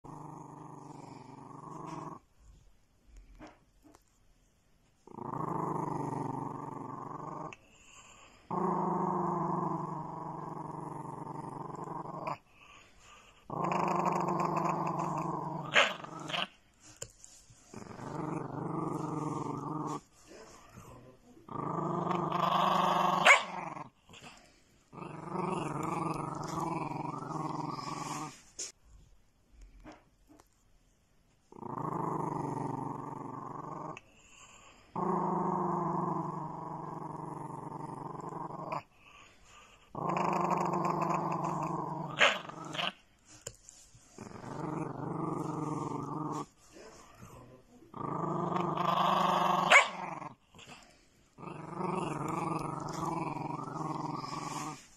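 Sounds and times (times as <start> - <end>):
small dog growling: 0.0 - 2.2, 5.0 - 28.7, 31.5 - 54.9.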